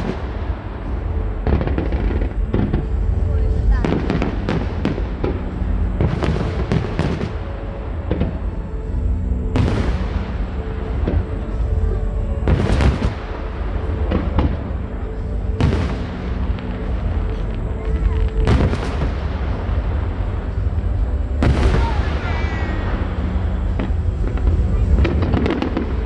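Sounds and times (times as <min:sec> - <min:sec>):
firework booms: 0:00.0 - 0:08.5, 0:09.5 - 0:11.6, 0:12.4 - 0:26.0
music: 0:00.0 - 0:26.0.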